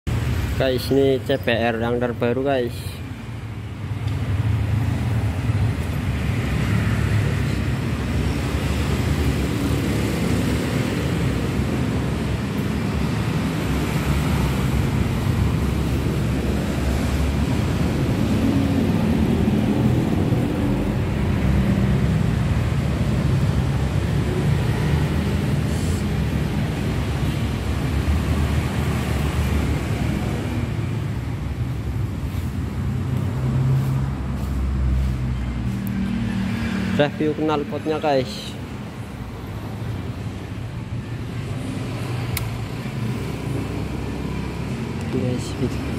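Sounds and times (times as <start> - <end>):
motor vehicle engine drone: 3.2 - 45.9.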